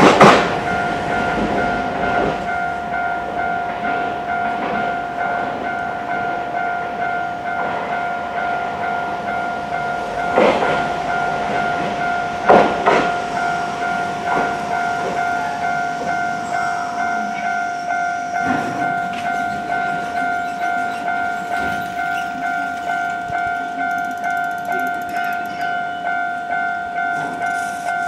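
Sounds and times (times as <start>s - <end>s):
level crossing warning bell: 0.0s - 28.0s
tram wheels clunking over rail joints: 0.0s - 28.0s.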